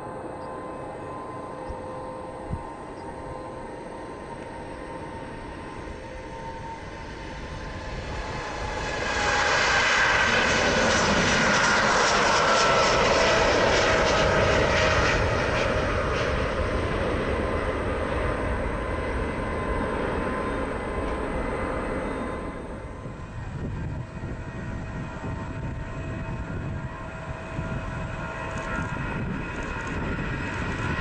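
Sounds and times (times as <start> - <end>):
jet airliner taking off: 0.0 - 31.0
jet engine whine: 0.0 - 31.0.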